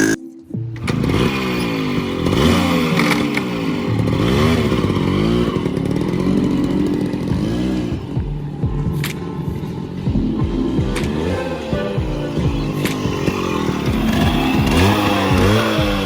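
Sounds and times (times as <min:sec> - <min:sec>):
motorcycle engine revving: 0:00.8 - 0:16.0.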